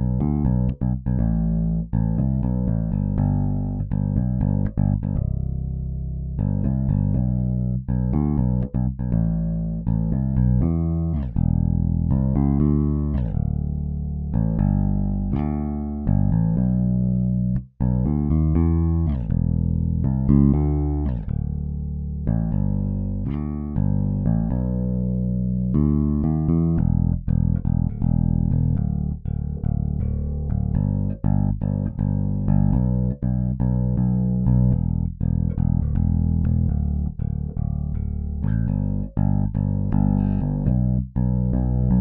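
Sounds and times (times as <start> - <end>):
plucked electric bass line: 0.0 - 42.0.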